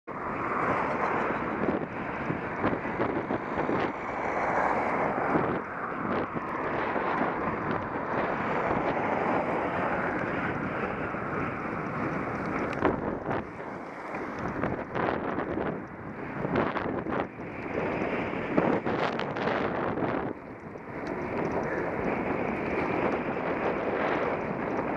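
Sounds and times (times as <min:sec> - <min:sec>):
wind buffeting microphone: 0:00.1 - 0:24.9.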